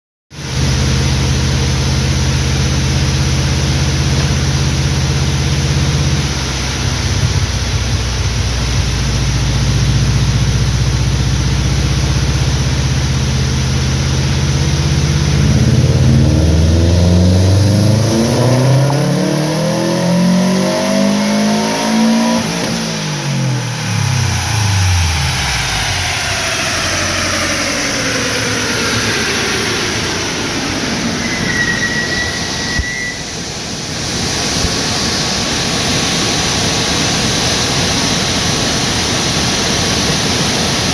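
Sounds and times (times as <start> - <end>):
car engine revving on dyno: 0.4 - 40.9.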